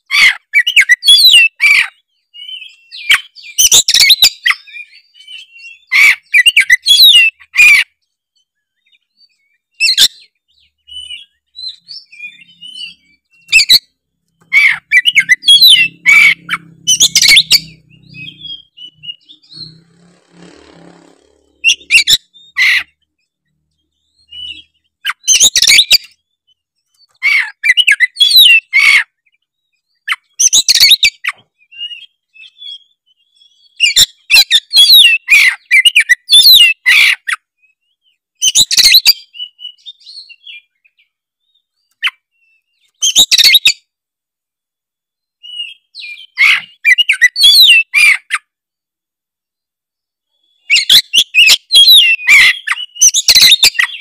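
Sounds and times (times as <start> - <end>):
bird song with whistles and chatter: 0.0 - 43.9, 45.2 - 48.5, 50.2 - 54.0.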